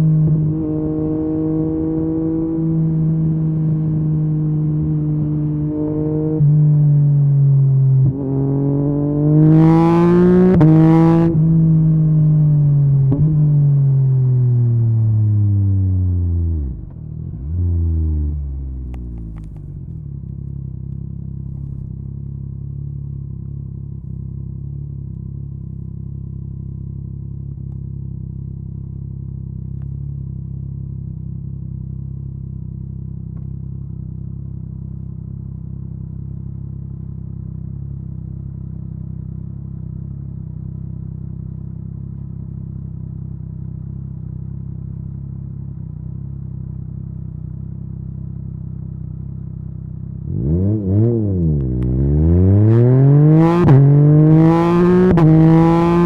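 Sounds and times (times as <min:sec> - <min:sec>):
motorcycle engine slowing and idling: 0:00.0 - 0:56.0.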